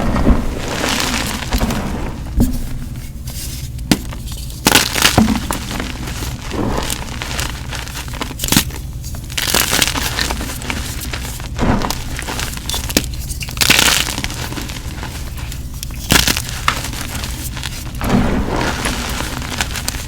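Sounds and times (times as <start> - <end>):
chalk crunching and crumbling: 0.0 - 20.0.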